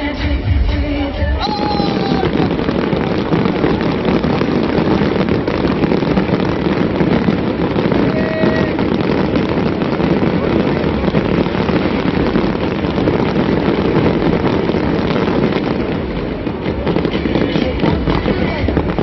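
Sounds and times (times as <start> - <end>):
fireworks bursts and crackling: 0.0 - 19.0
music: 0.0 - 19.0.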